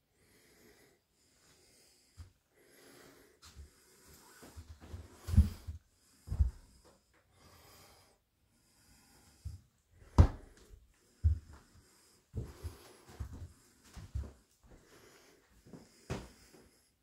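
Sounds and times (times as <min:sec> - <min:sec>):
faint breathy noise: 0:00.0 - 0:17.0.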